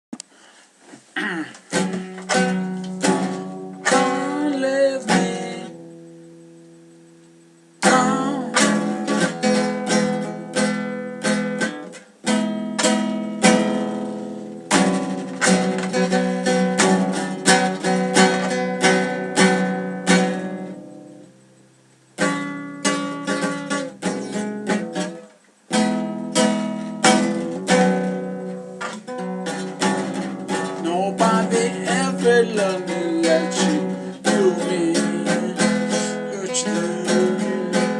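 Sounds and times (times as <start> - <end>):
acoustic guitar chords: 1.2 - 37.9.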